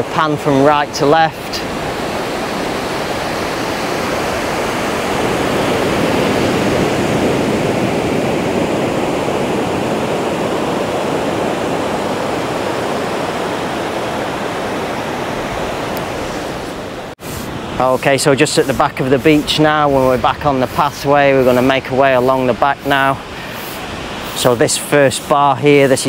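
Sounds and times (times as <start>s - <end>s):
surf breaking on beach: 0.0s - 26.0s.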